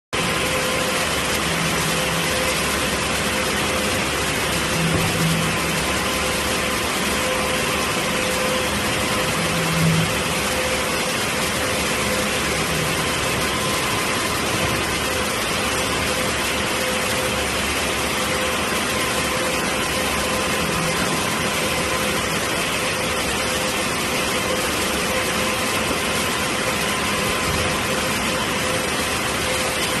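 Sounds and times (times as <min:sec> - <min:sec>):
conveyor machine noise: 0:00.2 - 0:30.0.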